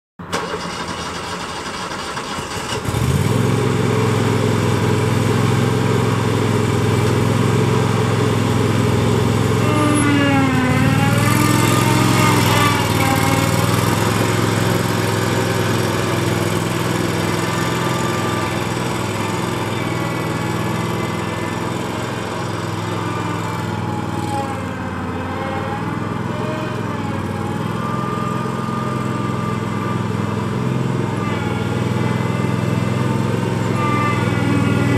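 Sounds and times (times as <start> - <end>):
mower engine running: 0.2 - 34.9.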